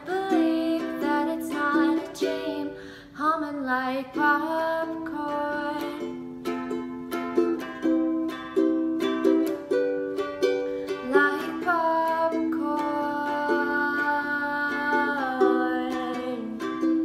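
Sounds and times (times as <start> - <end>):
ukulele strumming chords: 0.0 - 3.0, 3.7 - 17.0.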